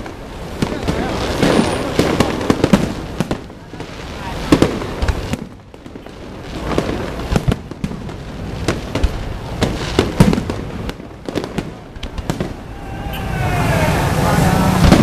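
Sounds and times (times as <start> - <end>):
fireworks bangs and booms: 0.0 - 15.0.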